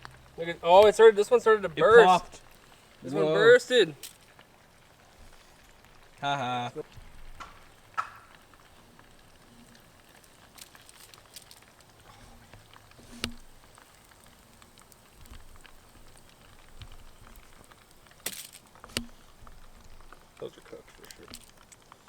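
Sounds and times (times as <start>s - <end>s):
food sizzling in hot oil: 0.0s - 22.0s
oil popping and crackling: 0.0s - 22.0s.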